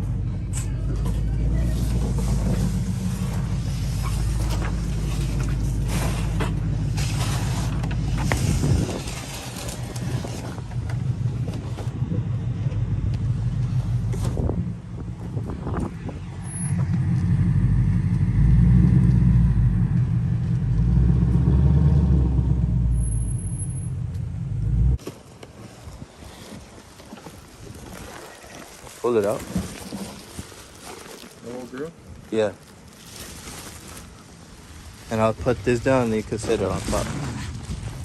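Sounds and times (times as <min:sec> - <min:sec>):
motor vehicle rumbling: 0:00.0 - 0:25.0, 0:29.1 - 0:38.0.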